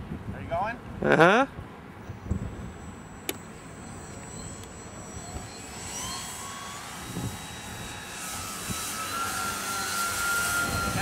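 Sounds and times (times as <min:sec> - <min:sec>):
rushing wind: 0:00.0 - 0:11.0
model airplane motor whining: 0:02.0 - 0:11.0.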